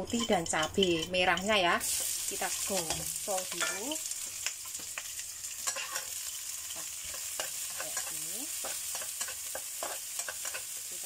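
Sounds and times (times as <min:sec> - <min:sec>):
spatula scraping a wok: 0:00.0 - 0:11.0
vegetables sizzling in hot oil: 0:00.0 - 0:11.0.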